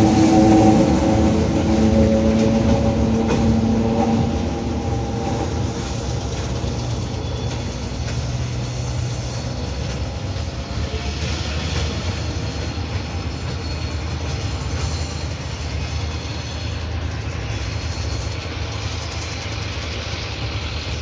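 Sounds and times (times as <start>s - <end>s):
electric train humming on track: 0.0s - 21.0s.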